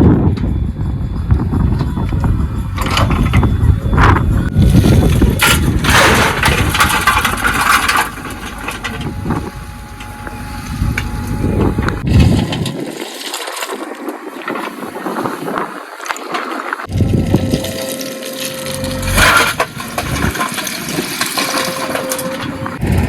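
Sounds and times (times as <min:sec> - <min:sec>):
diesel engine running: 0:00.4 - 0:13.7, 0:16.8 - 0:23.0
soil crunching and scraping: 0:01.7 - 0:23.0.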